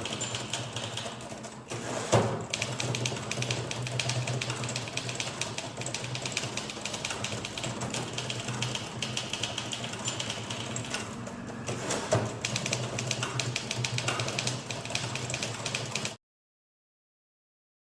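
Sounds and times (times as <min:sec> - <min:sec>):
typewriter typing rapidly: 0:00.0 - 0:16.2.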